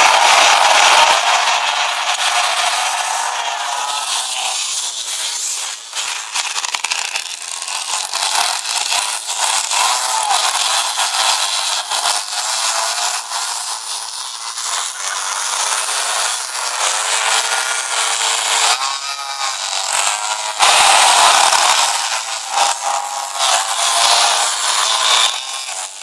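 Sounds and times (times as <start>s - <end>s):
small two-stroke engines buzzing: 0.0s - 26.0s.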